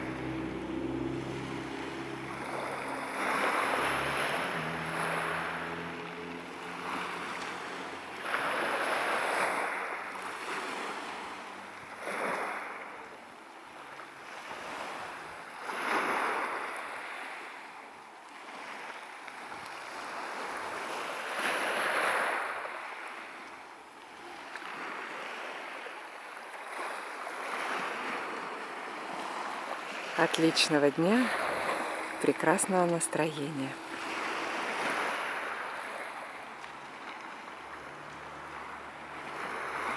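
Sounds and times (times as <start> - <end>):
waves washing onto pebble beach: 1.9 - 13.1, 18.5 - 39.9.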